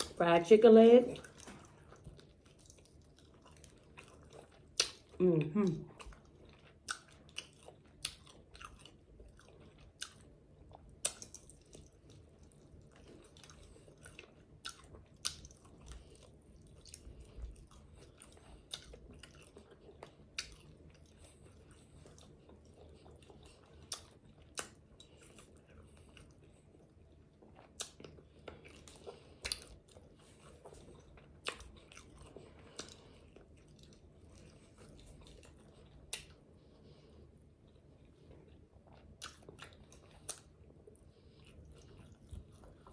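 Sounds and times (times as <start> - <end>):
crunchy chewing: 1.2 - 5.2, 5.9 - 42.9.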